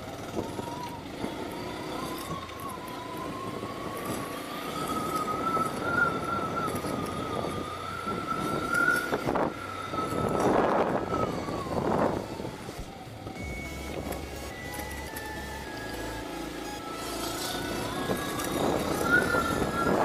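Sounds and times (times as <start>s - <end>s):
thin high engine whine: 0.0s - 20.0s
wind and road noise: 0.0s - 20.0s.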